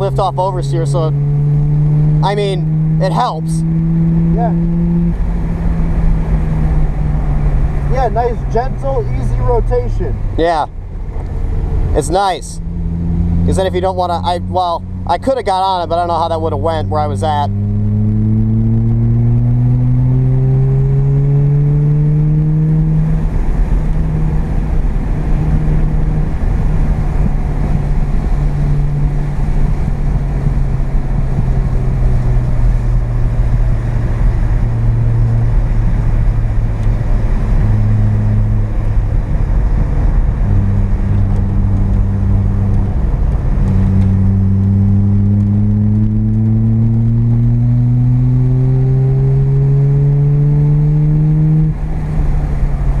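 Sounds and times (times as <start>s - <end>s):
rotary engine revving: 0.0s - 10.2s, 11.1s - 53.0s.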